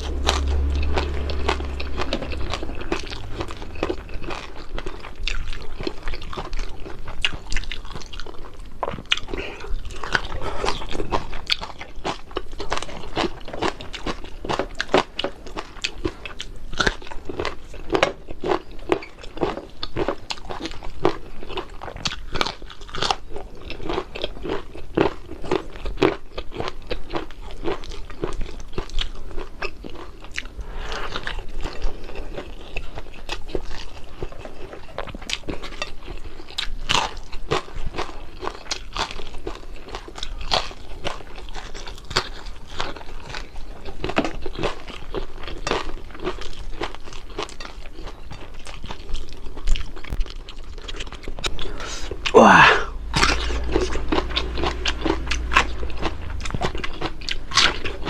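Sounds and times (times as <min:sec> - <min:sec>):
chewing crispy fried fish: 0:00.0 - 0:58.0.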